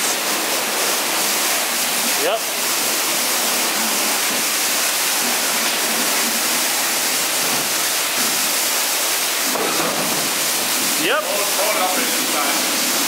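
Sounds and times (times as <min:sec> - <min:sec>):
pressure washer spraying water: 0:00.0 - 0:13.0.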